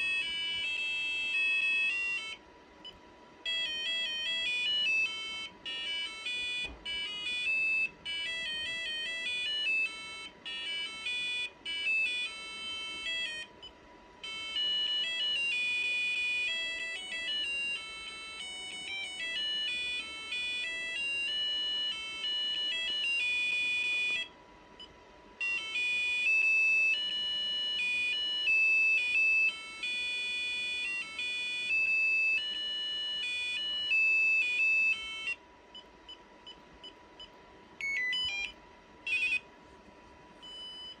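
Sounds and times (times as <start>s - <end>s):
cordless phone ringtone beeping: 0.0s - 2.4s, 3.4s - 13.5s, 14.2s - 24.3s, 25.4s - 35.4s, 37.8s - 39.5s, 40.4s - 41.0s.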